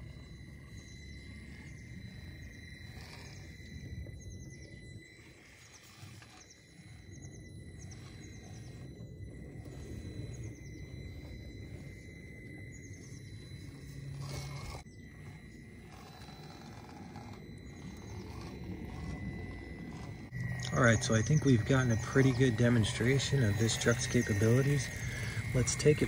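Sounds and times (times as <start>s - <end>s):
bird calling in falling trills: 0.0s - 26.0s
small electric motor whining: 0.0s - 26.0s.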